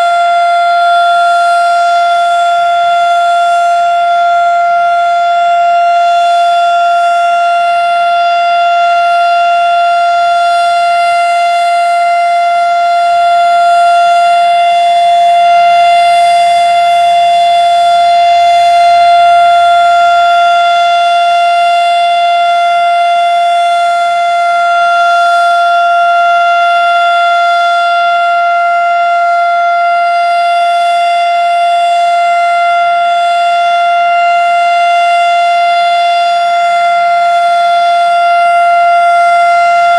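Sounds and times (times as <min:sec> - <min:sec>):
fire siren steady tone: 0:00.0 - 0:39.9.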